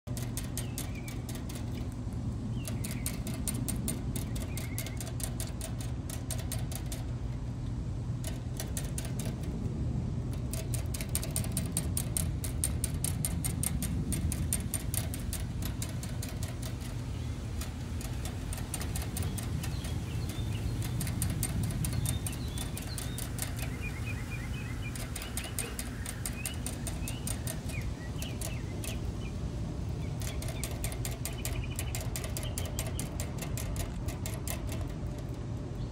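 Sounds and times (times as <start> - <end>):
small metallic clicks: 0.0 - 35.8
rabbit licking metal water spout: 0.0 - 35.9
steady low hum: 0.0 - 35.9.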